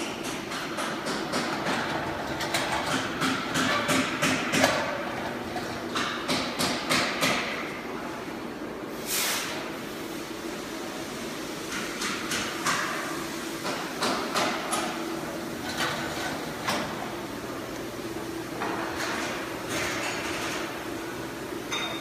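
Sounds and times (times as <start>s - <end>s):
steady workshop hum: 0.0s - 22.0s.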